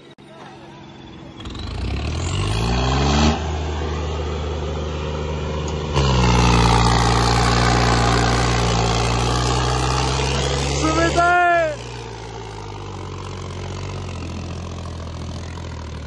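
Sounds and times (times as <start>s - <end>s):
tractor diesel engines at full throttle: 0.0s - 16.0s.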